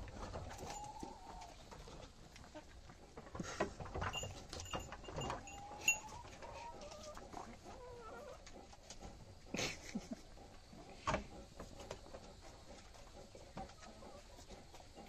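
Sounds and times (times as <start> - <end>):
goats crunching watermelon rind: 0.0 - 15.0.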